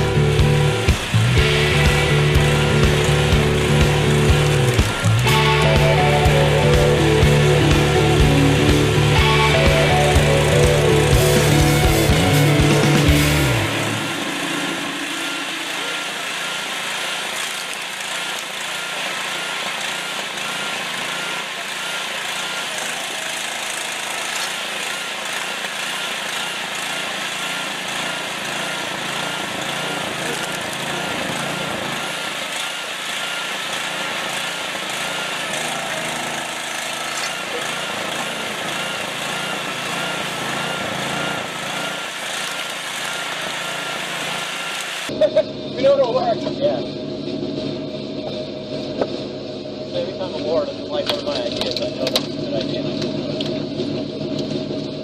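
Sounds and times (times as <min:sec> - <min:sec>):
log splitter engine running: 0:00.0 - 0:55.0.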